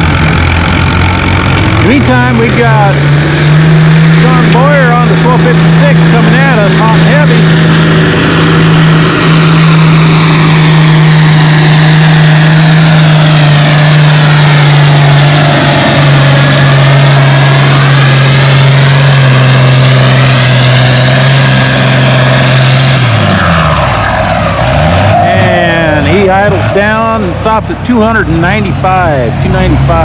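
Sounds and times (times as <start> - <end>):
diesel tractor engine pulling: 0.0 - 30.0.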